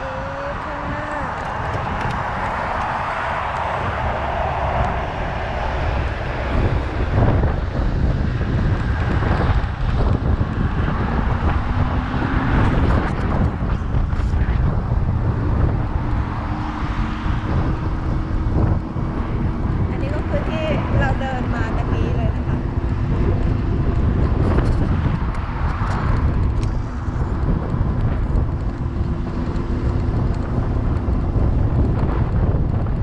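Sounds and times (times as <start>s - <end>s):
rough low rumble from riding: 0.0s - 33.0s
wind buffeting microphone: 0.0s - 33.0s.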